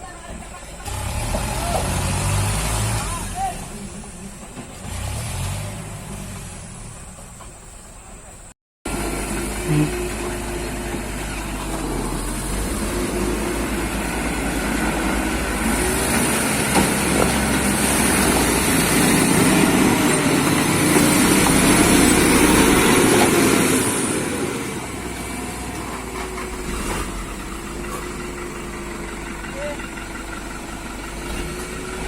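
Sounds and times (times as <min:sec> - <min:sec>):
heavy diesel engine revving: 0:00.6 - 0:07.5, 0:08.9 - 0:32.0.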